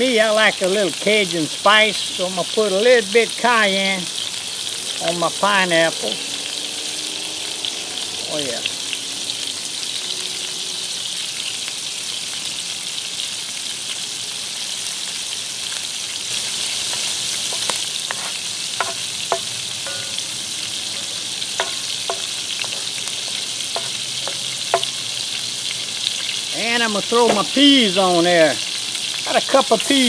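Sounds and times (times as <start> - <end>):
food sizzling in butter: 0.0 - 30.0.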